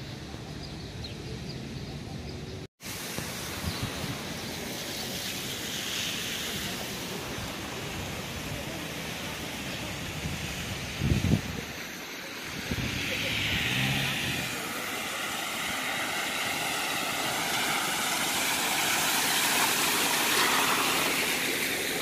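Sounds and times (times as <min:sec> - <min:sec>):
steady rushing outdoor noise: 0:00.0 - 0:22.0.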